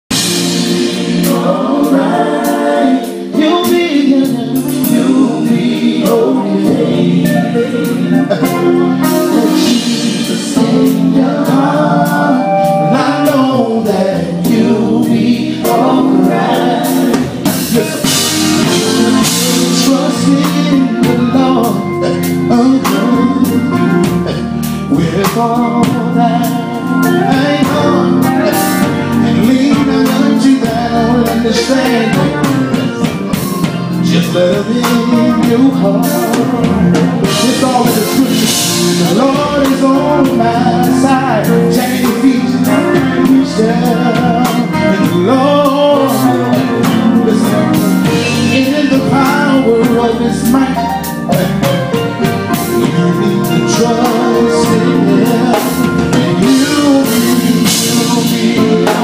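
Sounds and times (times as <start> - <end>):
drum kit: 0.0 - 59.0
keyboard: 0.0 - 59.0
men's vocal group singing: 0.1 - 59.0.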